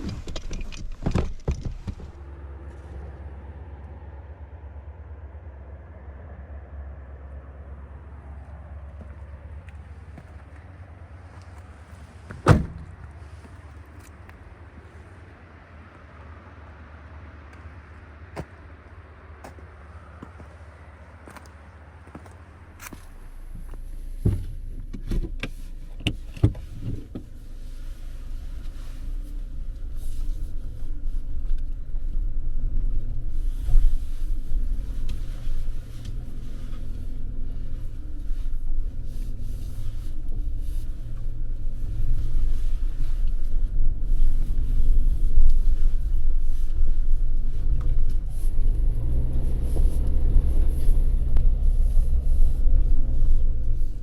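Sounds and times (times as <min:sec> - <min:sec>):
road noise: 0:00.0 - 0:54.0
vehicle engine rumble: 0:00.0 - 0:54.0.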